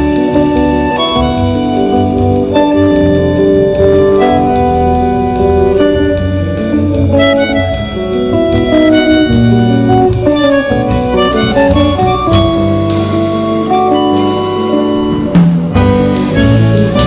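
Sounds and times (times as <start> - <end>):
bandoneon held notes: 0.0 - 17.0
light percussion: 0.0 - 17.0
plucked bass: 0.0 - 17.0
plucked guitar: 0.0 - 17.0.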